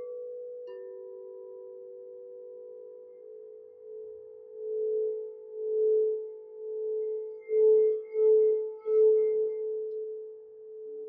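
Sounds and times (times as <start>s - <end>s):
crystal singing bowl tone: 0.0s - 11.0s.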